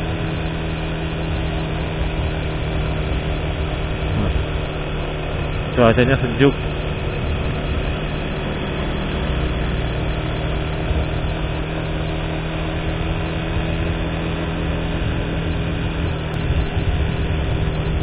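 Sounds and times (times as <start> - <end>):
vehicle engine cruising: 0.0 - 18.0
wind and road noise: 0.0 - 18.0.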